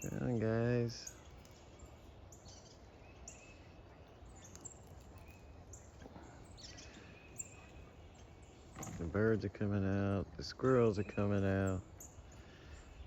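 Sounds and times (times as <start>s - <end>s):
faint songbird chirps: 0.0s - 13.0s.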